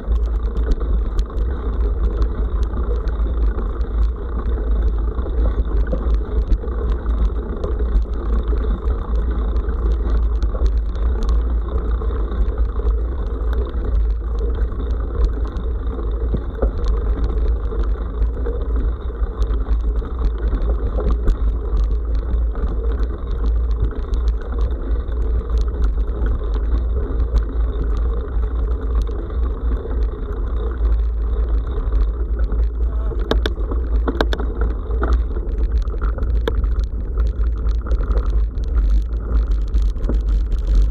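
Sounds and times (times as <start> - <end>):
bicycle tyre noise: 0.0 - 40.9
bike clicks and rattles: 0.0 - 40.9
wind noise on microphone: 0.0 - 40.9.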